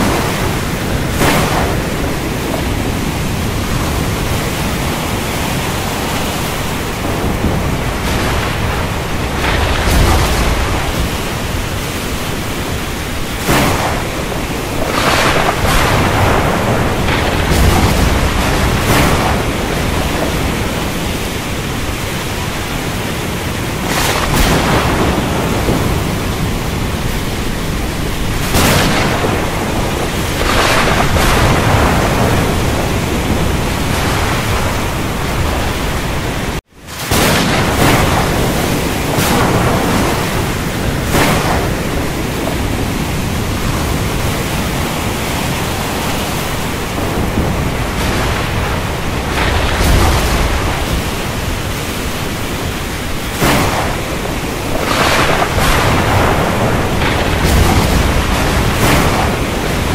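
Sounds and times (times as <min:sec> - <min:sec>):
heavy rain hissing: 0:00.0 - 0:59.9
thunder rumbling: 0:00.0 - 0:59.9.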